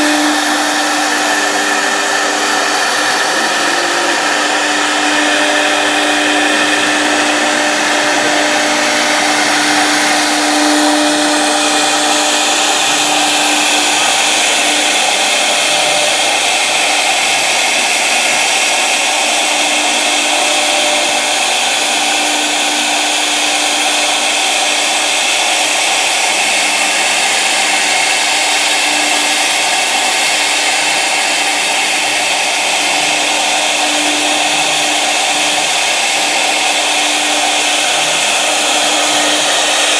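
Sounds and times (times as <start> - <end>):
machine whine and rush: 0.0 - 39.9
steady hum: 0.0 - 39.9.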